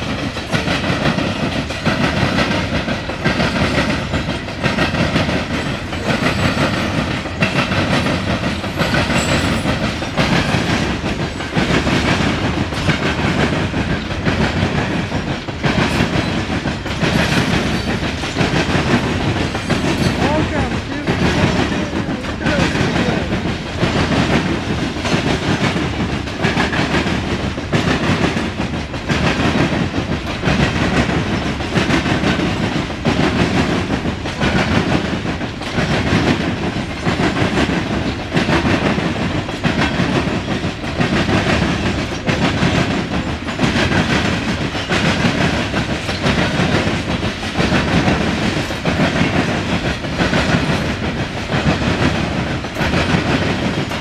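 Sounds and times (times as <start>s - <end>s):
rumble of train cars: 0.0s - 54.0s
train wheels clicking over rail joints: 0.0s - 54.0s.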